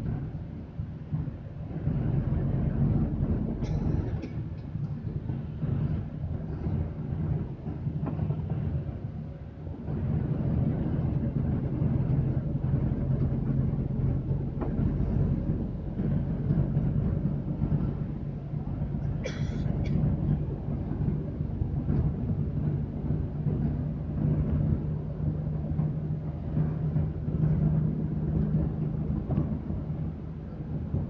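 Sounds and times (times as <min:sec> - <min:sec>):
vehicle engine drone and rolling noise: 0:00.0 - 0:31.0.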